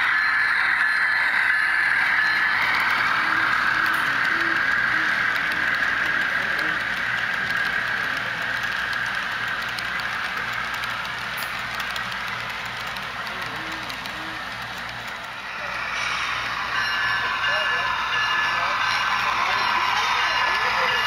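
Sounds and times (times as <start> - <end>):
model train wheels rattling: 0.1 - 21.0.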